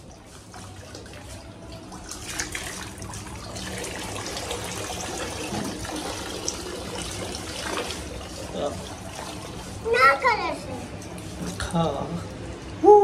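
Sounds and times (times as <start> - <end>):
water splashing from garden hose: 0.0 - 12.0.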